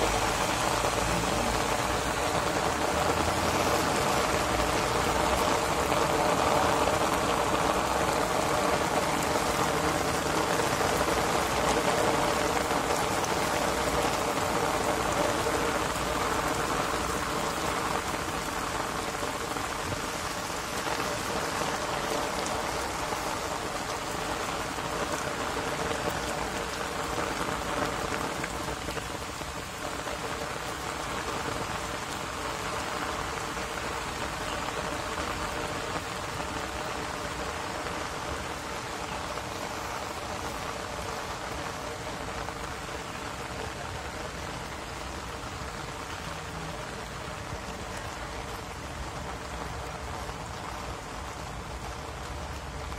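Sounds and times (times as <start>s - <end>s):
heavy rain on wet paving: 0.0s - 52.9s.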